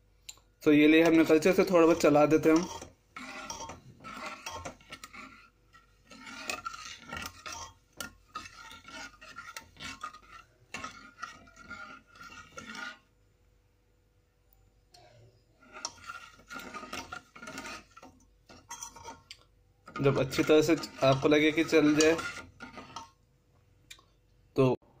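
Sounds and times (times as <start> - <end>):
ladle scraping metal pot: 0.8 - 13.1, 15.0 - 23.2.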